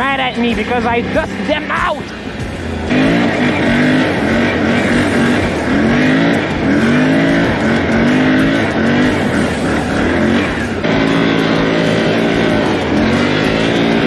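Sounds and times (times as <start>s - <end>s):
off-road engine revving: 0.0s - 14.0s.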